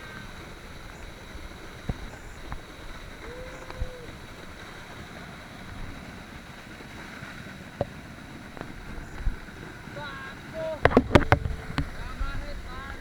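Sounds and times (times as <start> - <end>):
waterfall rushing: 0.0 - 13.0
wind on microphone: 0.0 - 13.0.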